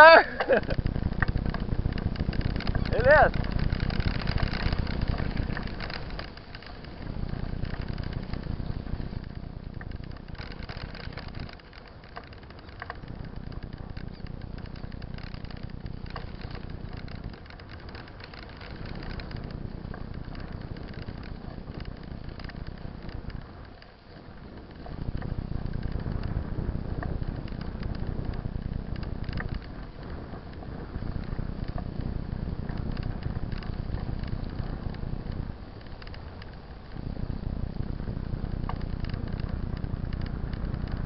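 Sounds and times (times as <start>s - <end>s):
stones crackling and bike rattle: 0.0s - 41.0s
tyres rolling on gravel: 0.0s - 41.0s
wind buffeting microphone: 0.0s - 41.0s.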